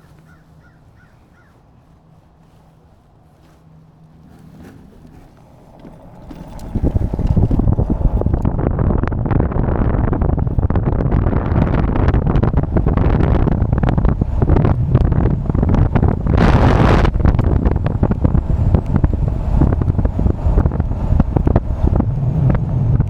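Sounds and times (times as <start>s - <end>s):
wind buffeting microphone: 3.2s - 23.0s.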